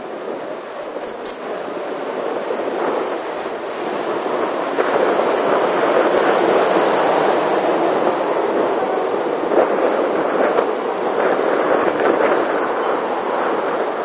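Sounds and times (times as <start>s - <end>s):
road noise: 0.0s - 14.0s
wind rushing over microphone: 0.0s - 14.0s.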